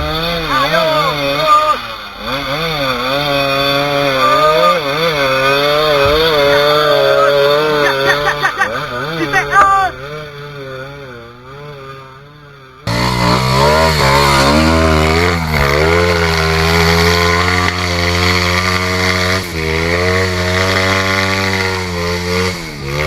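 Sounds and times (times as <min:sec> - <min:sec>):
dirt bike engine revving: 0:00.0 - 0:23.0
faint engine: 0:00.0 - 0:23.0.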